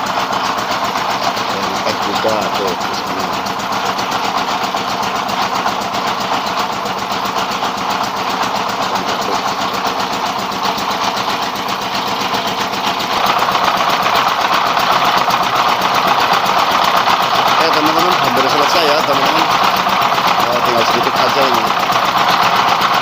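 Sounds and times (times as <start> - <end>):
diesel engine running: 0.0 - 23.0
rice mill rushing noise: 0.0 - 23.0.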